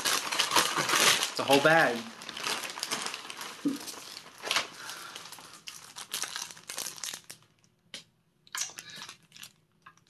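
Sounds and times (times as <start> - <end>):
plastic bags crinkling: 0.0 - 7.6, 8.5 - 10.0.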